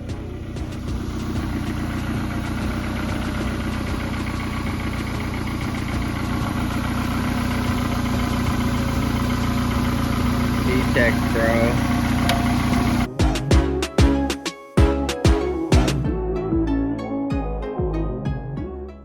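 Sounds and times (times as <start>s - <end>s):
engine idling: 0.0s - 16.1s.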